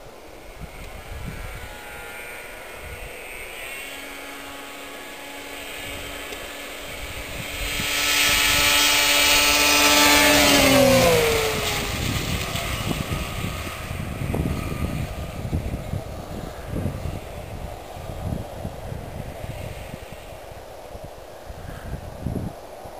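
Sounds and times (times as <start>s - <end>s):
snowmobile passing by: 0.0s - 22.5s.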